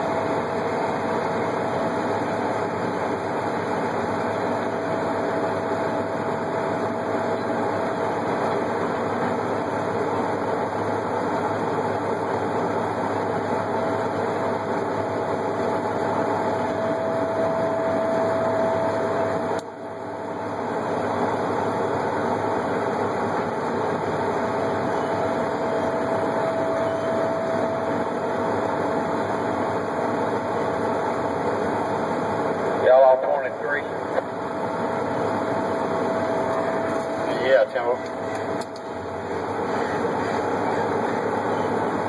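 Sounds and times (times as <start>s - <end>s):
diesel truck engine running: 0.0s - 42.0s
winch whine: 0.0s - 42.0s.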